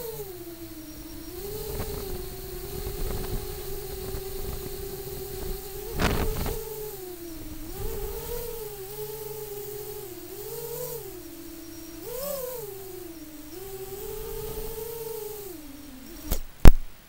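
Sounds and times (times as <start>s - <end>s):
drone electric motors whining: 0.0s - 16.7s.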